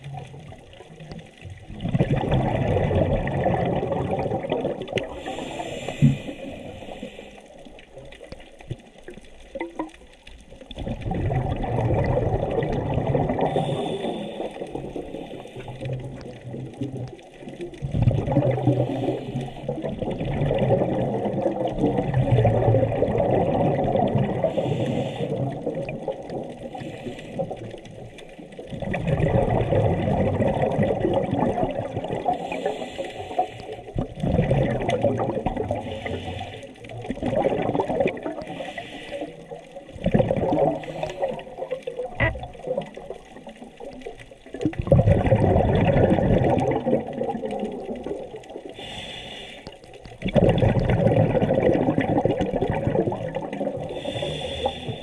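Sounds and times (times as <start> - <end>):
underwater exhaust bubbles: 0.0 - 55.0.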